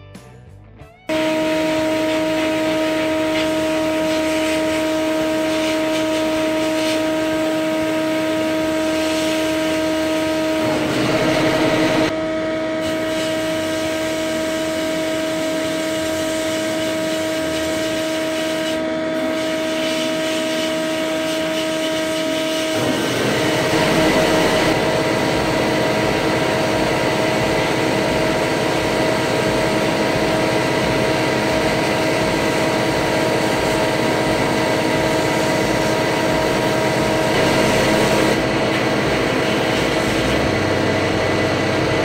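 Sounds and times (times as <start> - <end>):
steady droning tone: 1.1 - 15.6, 22.5 - 42.0.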